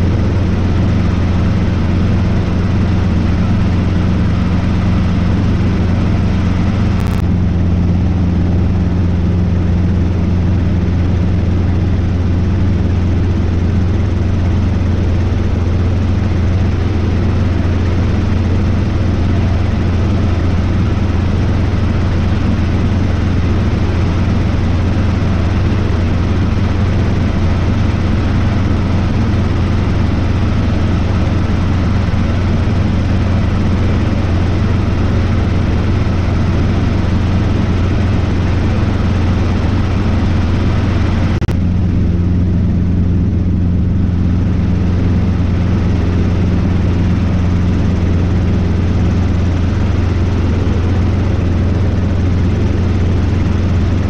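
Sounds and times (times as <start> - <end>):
helicopter engine and rotor drone: 0.0 - 54.0
steady higher hum: 0.0 - 54.0.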